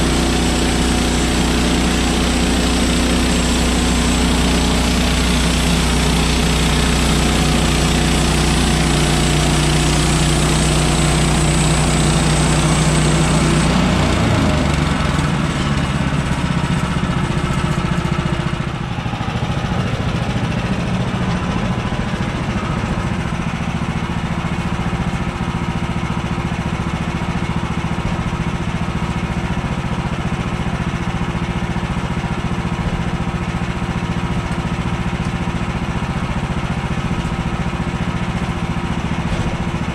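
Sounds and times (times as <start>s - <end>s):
sawmill gasoline engine running: 0.0s - 39.9s.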